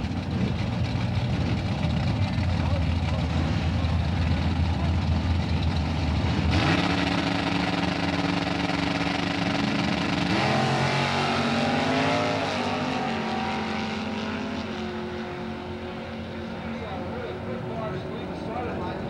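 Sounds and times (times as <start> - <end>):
drag racing car engines: 0.0 - 19.0.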